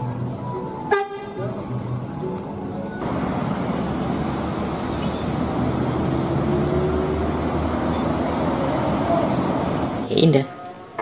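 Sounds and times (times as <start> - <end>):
bus diesel engine running: 0.0 - 10.1
tyre and traffic noise: 0.0 - 11.0.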